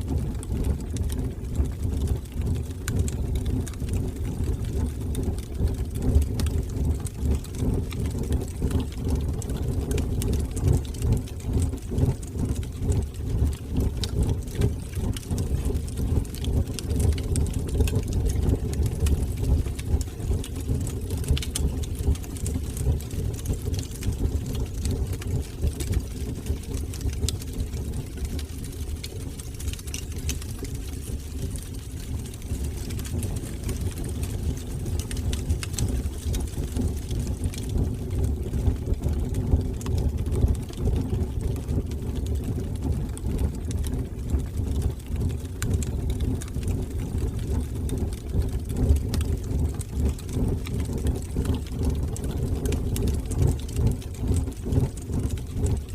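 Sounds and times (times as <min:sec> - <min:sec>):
fire crackles and pops: 0:00.0 - 0:55.9
fire flames rumbling: 0:00.0 - 0:55.9.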